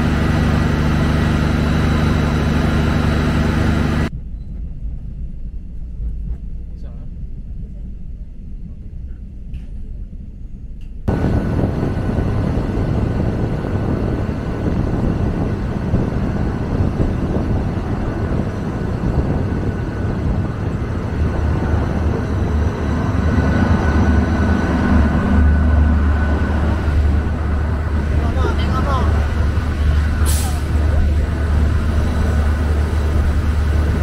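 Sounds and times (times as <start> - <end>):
moving vehicle running noise: 0.0 - 8.2, 10.9 - 34.0
deep hum: 0.0 - 34.0
low rumble: 0.0 - 34.0.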